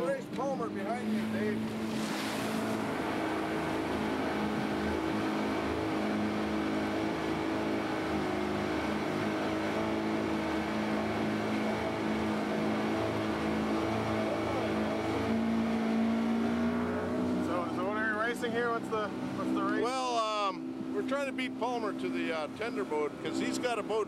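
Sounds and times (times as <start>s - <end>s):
outboard motor running: 0.0s - 24.0s
water rushing past hull: 0.0s - 24.0s.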